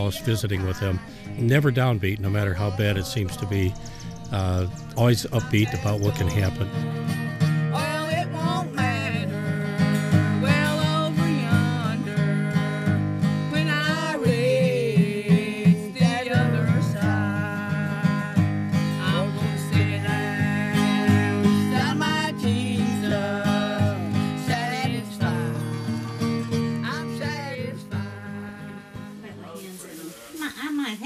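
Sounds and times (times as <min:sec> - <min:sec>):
woman singing: 0:00.0 - 0:29.6
acoustic guitar strumming: 0:00.0 - 0:29.8.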